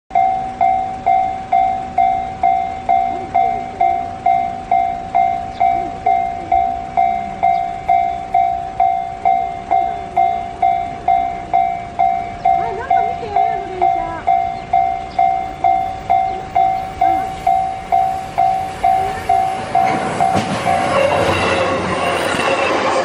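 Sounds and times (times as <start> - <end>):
level crossing warning bell: 0.1 - 23.0.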